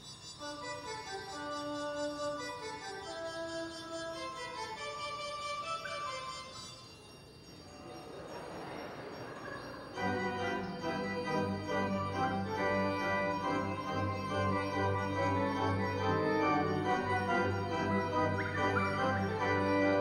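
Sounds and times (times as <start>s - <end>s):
pipe organ chords: 0.0s - 20.0s.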